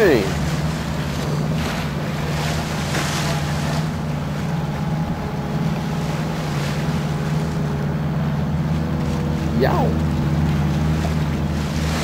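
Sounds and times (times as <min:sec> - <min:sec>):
boat engine humming: 0:00.0 - 0:12.0
sea noise: 0:00.0 - 0:12.0
wind: 0:00.0 - 0:12.0.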